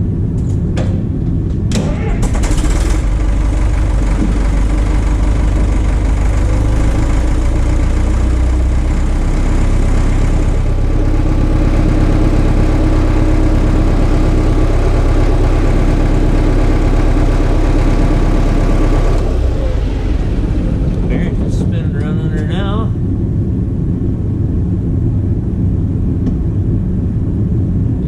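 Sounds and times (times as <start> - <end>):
heavy equipment engine running: 0.0 - 28.0.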